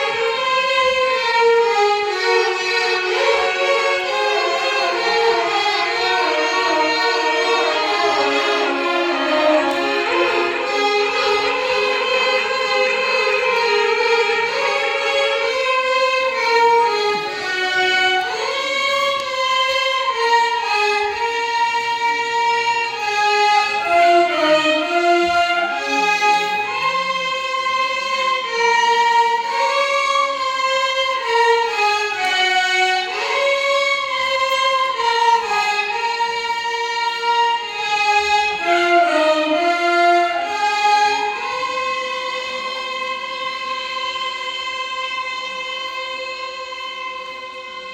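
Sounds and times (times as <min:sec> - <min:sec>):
violin ensemble melody: 0:00.0 - 0:47.9.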